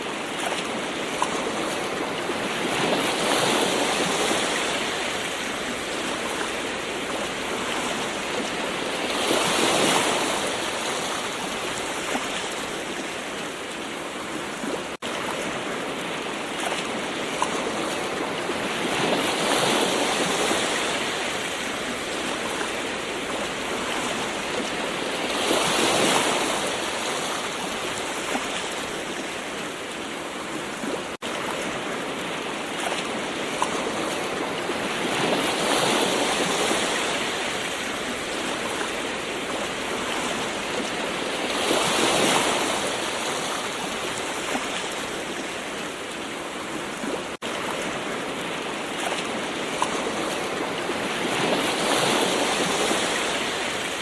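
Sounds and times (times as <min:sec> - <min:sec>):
ocean waves washing ashore: 0:00.0 - 0:54.0.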